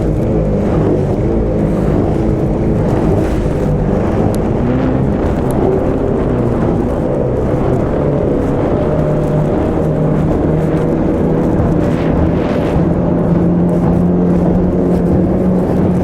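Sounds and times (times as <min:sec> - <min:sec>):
outboard motor running hard: 0:00.0 - 0:16.0
water and wind rush: 0:00.0 - 0:16.0.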